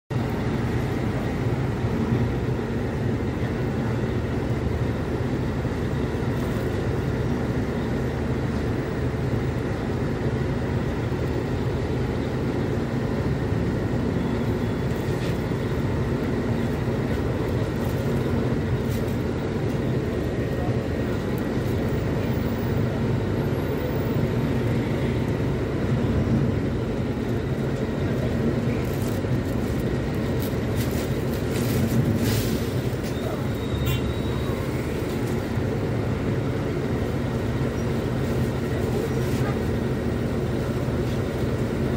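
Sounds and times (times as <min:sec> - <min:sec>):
bus diesel engine running: 0:00.1 - 0:41.9.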